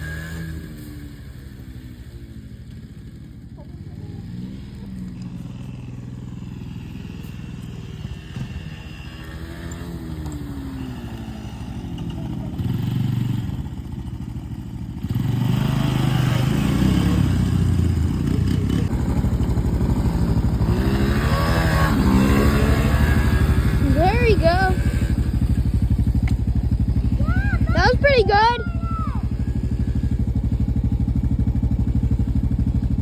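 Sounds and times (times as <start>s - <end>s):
dirt bike engine revving: 0.0s - 2.1s, 3.7s - 33.0s.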